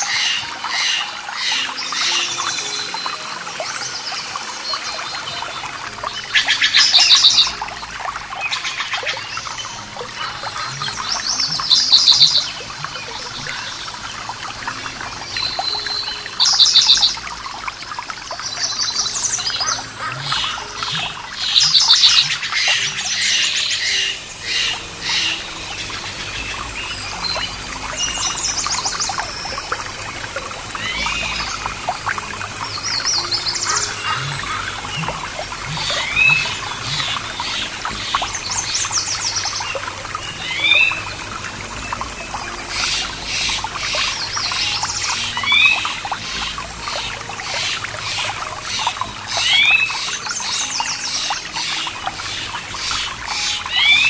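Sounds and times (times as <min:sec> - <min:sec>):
running water: 0:00.0 - 0:54.0
songbirds trilling: 0:00.0 - 0:54.0.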